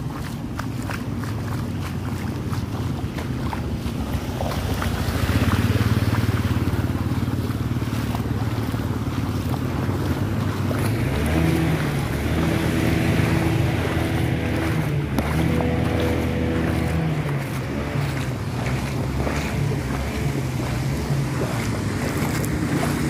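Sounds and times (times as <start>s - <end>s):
steady pitched engine hum: 0.0s - 23.0s
vehicle engines running: 0.0s - 23.0s
wind buffeting microphone: 0.0s - 23.0s.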